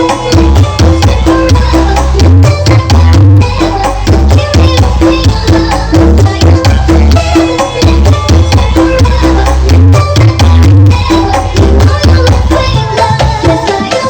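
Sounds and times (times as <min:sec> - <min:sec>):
deep pulsing bass: 0:00.0 - 0:12.9
loud percussion-heavy music: 0:00.0 - 0:14.0.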